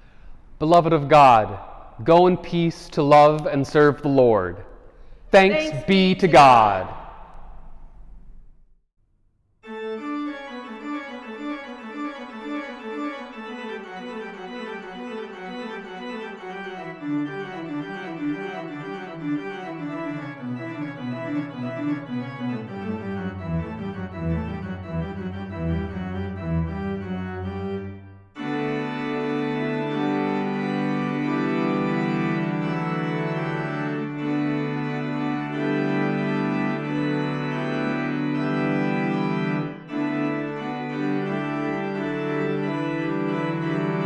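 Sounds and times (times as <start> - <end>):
organ piece: 0.0 - 7.3, 9.6 - 44.0.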